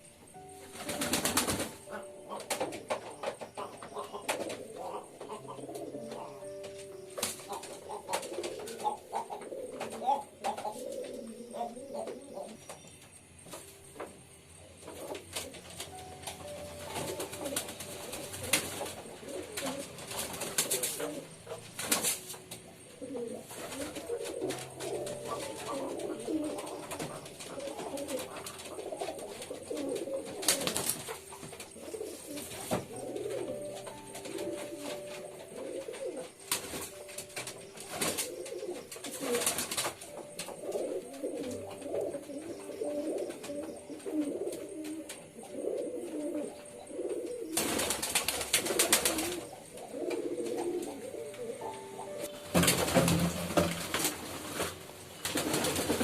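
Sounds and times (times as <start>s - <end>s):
pigeons cooing: 0.7s - 12.8s, 14.8s - 56.0s.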